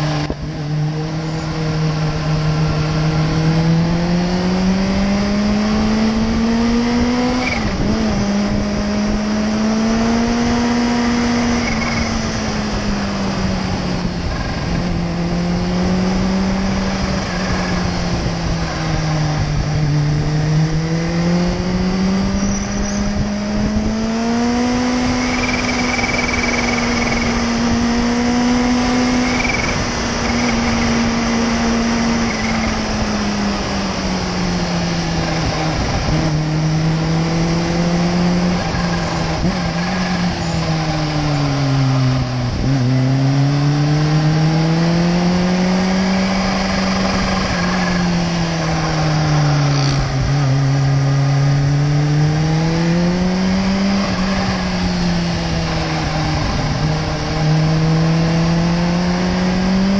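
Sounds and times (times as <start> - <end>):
air rush and road noise: 0.0 - 59.9
motorcycle engine revving: 0.0 - 59.9.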